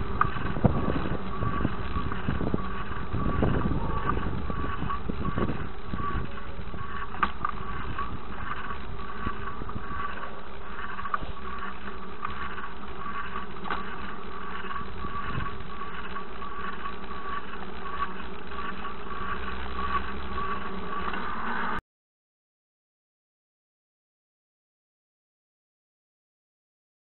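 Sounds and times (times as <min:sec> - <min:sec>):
high whine: 0:00.0 - 0:21.8.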